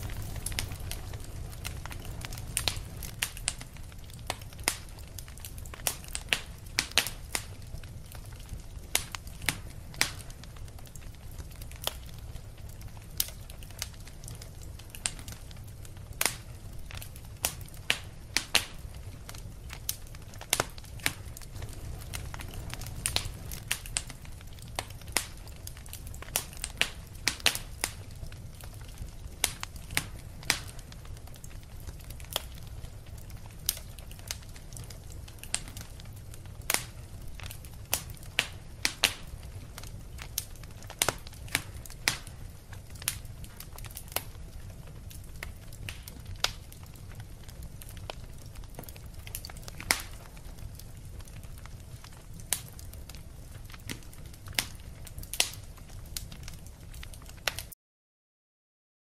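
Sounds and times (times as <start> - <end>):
fire popping: 0.0 - 57.8
wood fire crackling: 0.0 - 57.8.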